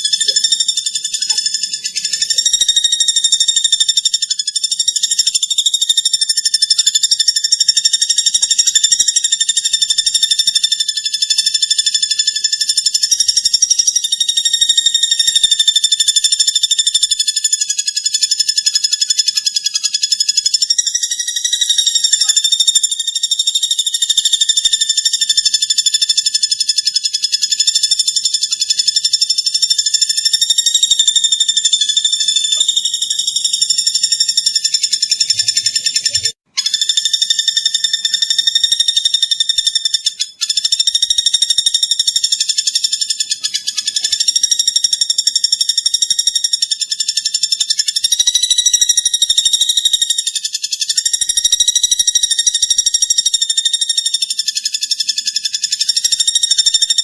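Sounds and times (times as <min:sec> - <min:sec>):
woodpecker buzzing trill: 0:00.0 - 0:57.0.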